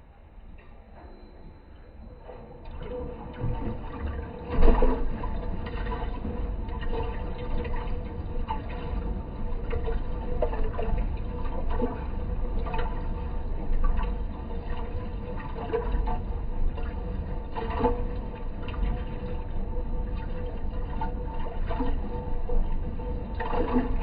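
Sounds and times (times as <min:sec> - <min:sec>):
steady machine hum: 0:00.0 - 0:24.0
water sloshing in washing machine: 0:02.0 - 0:24.0.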